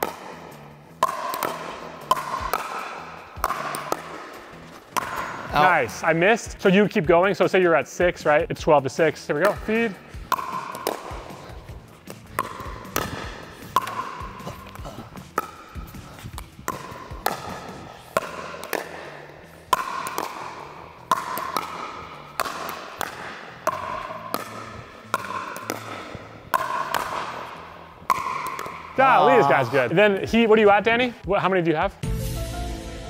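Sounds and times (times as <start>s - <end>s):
paddles hitting plastic ball: 0.0s - 6.6s, 9.1s - 29.6s.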